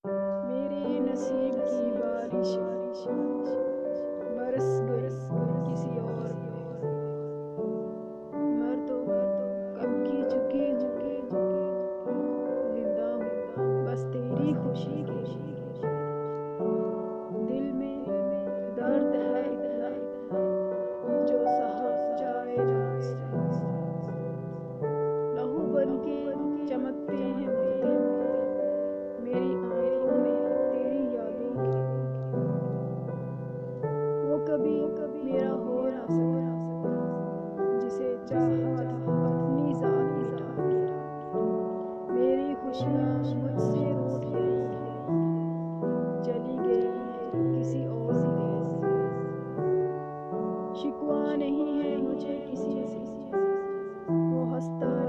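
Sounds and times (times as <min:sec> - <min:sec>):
sustained keyboard chords: 0:00.0 - 0:55.0.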